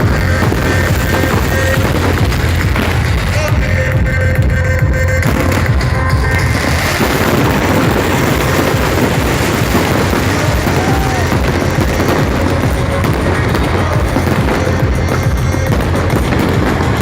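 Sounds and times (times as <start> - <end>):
fireworks crackling and booming: 0.0 - 17.0.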